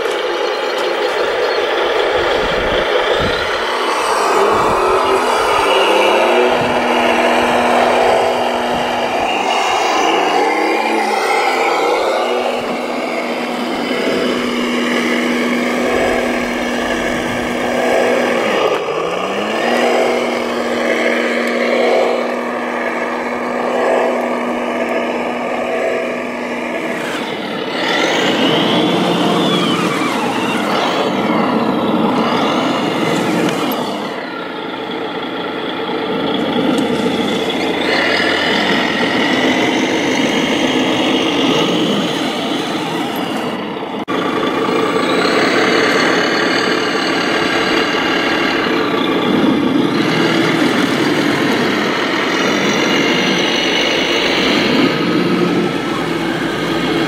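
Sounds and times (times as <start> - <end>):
model truck motors whining: 0.0 - 57.0
trucks driving over gravel: 0.0 - 57.0.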